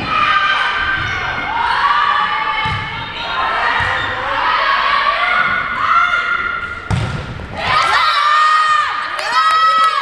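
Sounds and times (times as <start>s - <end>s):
crowd shouting and cheering: 0.0s - 10.0s.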